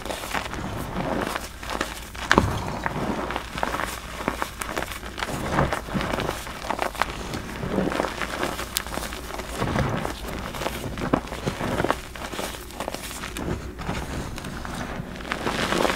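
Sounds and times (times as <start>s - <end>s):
hands crumbling chalk: 0.0s - 15.9s.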